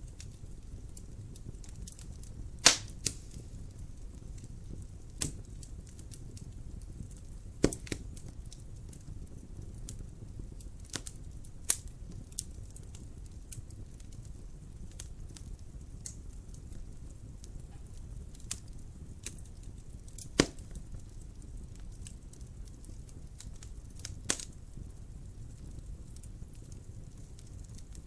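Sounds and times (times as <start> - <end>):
flames rumbling: 0.0 - 28.0
wood fire popping and snapping: 0.0 - 28.0.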